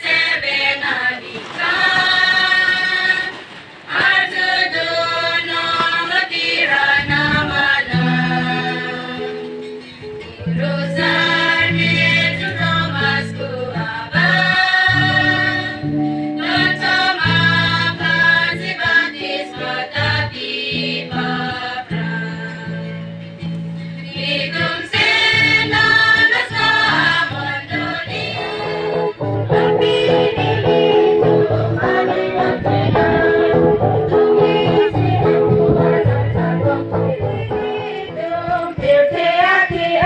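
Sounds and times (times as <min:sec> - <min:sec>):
choir singing: 0:00.0 - 0:09.3, 0:10.6 - 0:22.4, 0:24.0 - 0:40.0.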